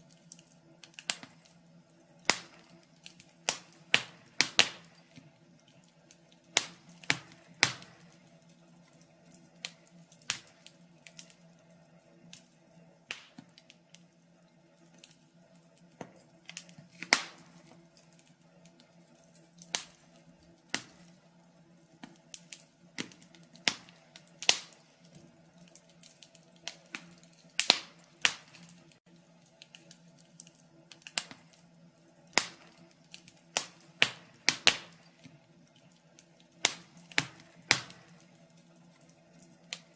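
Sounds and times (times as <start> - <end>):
faint steady hum: 0.0 - 39.9
log fire crackling: 0.0 - 39.9.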